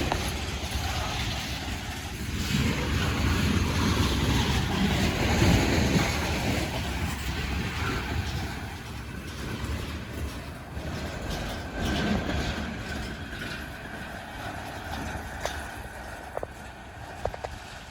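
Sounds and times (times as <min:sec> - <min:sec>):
moving vehicle rumble: 0:00.0 - 0:17.9
wind on microphone: 0:00.0 - 0:17.9.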